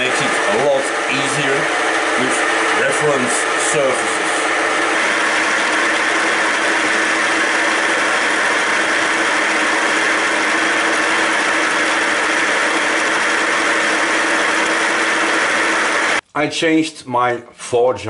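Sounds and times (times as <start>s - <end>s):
milling machine cutting steel: 0.0s - 16.2s
motor hum: 0.0s - 16.2s.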